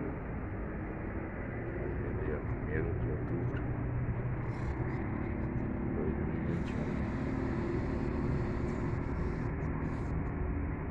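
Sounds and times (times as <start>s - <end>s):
city traffic rumble: 0.0s - 10.9s
wind: 0.0s - 10.9s.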